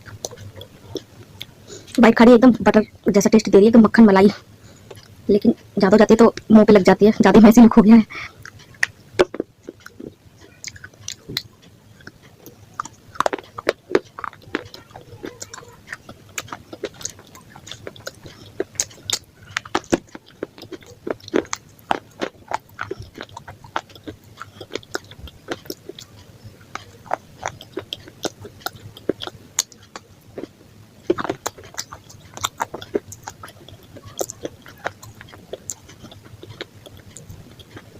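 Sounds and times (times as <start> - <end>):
person chewing crunchy food: 0.0 - 2.0, 4.4 - 6.5, 8.1 - 37.9.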